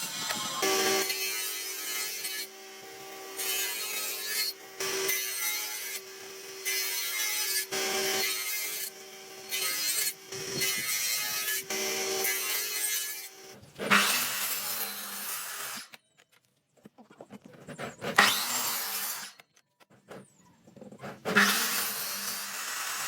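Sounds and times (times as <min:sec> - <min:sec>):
tool working wood: 0:00.0 - 0:16.0, 0:16.8 - 0:23.0.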